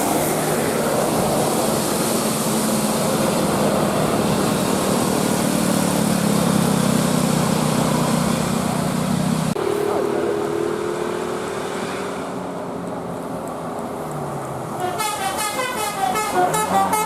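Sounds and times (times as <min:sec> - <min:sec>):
bus engine droning: 0:00.0 - 0:17.0.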